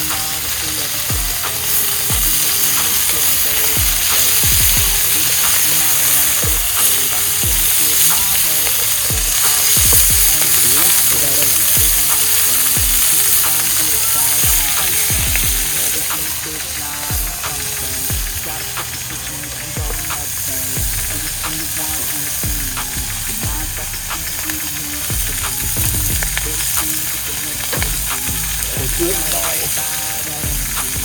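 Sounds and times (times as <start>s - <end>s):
hip-hop beat: 0.0s - 31.0s
meat sizzling in a pan: 0.0s - 31.0s.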